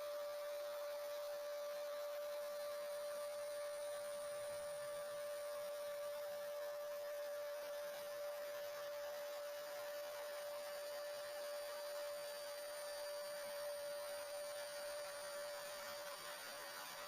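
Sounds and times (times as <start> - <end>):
router spindle whining: 0.0 - 17.0.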